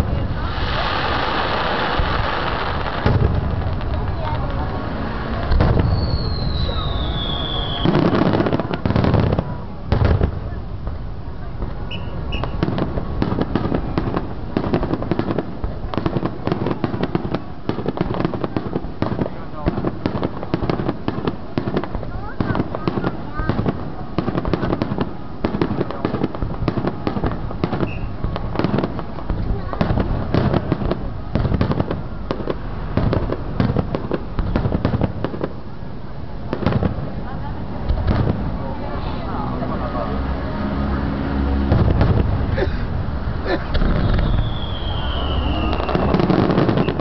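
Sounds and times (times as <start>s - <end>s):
fireworks crackling pops: 0.0s - 39.6s, 41.4s - 47.0s.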